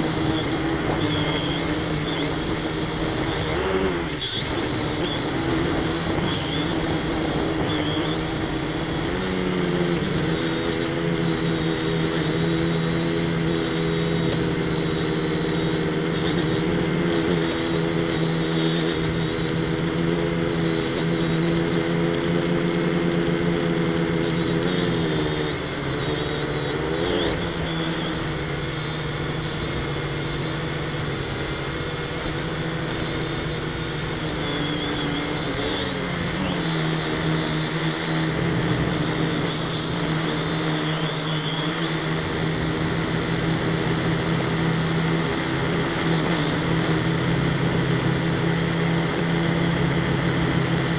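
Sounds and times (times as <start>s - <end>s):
quadcopter propellers buzzing: 0.0s - 50.9s.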